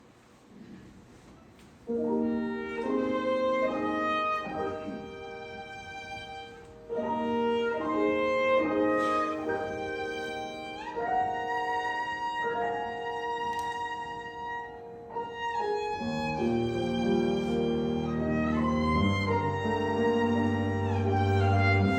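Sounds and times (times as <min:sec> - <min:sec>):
piano accompaniment: 0:01.8 - 0:21.9
low cello: 0:01.9 - 0:21.9
violin melody: 0:01.9 - 0:21.9.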